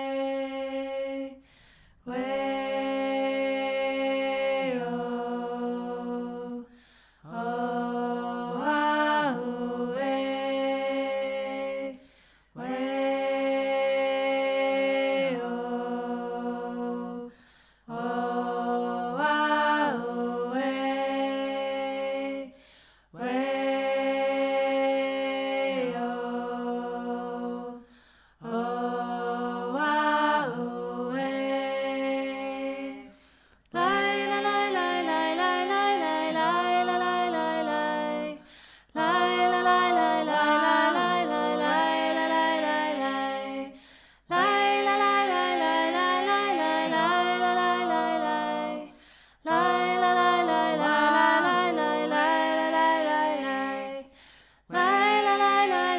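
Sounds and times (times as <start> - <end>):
unaccompanied chant-like singing: 0.0 - 55.9.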